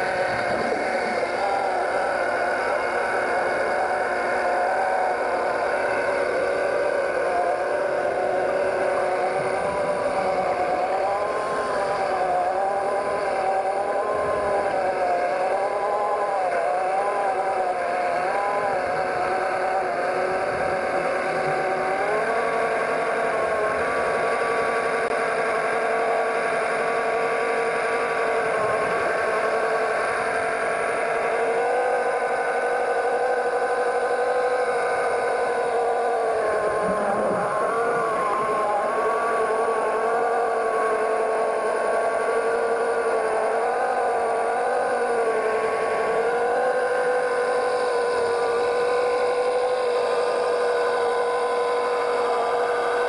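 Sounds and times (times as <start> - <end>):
motor drone underwater: 0.0 - 53.0.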